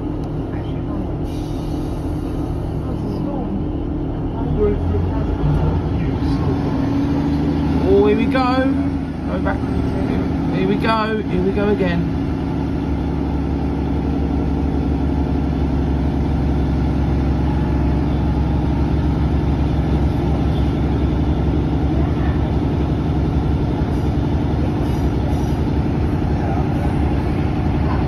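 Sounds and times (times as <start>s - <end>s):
train engine running: 0.0s - 28.0s.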